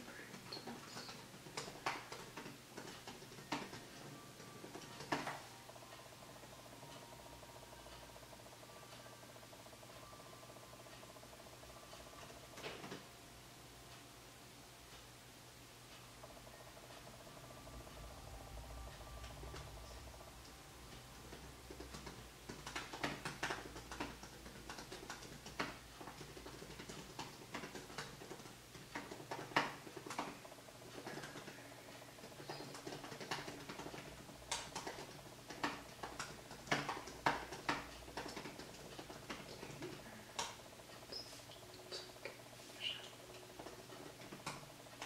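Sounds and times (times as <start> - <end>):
laptop keyboard typing: 0.0 - 13.1, 16.2 - 42.4.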